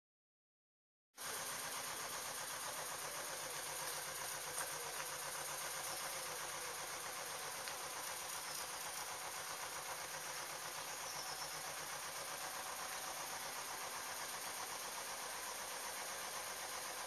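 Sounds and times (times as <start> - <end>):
boat engine running: 1.2 - 17.0.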